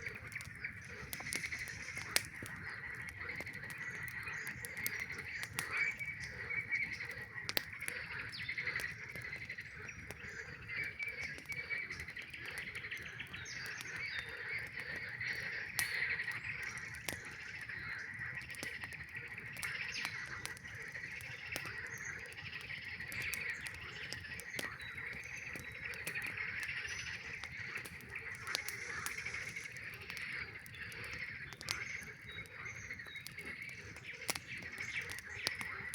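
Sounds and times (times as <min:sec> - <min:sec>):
campfire crackling: 0:00.0 - 0:35.9
frogs trilling chorus: 0:00.0 - 0:35.9.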